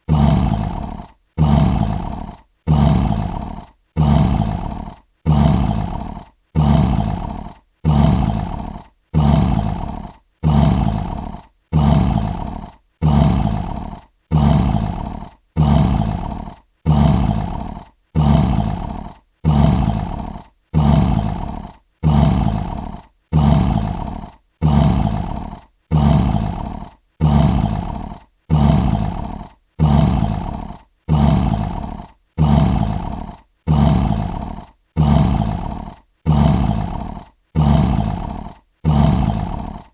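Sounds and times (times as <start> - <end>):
lion roar: 0.0 - 39.9.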